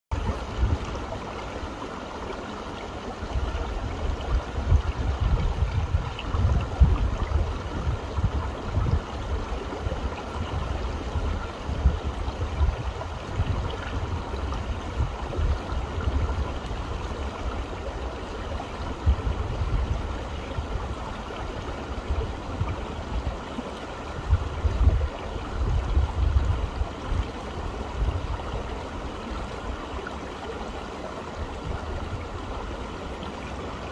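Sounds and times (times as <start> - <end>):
stream water rushing: 0.1 - 33.9.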